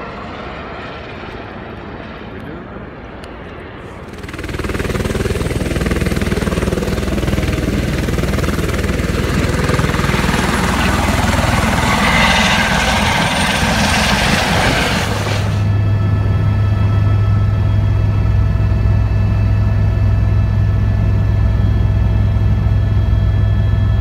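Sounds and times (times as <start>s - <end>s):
helicopter engine and rotor: 0.0s - 24.0s.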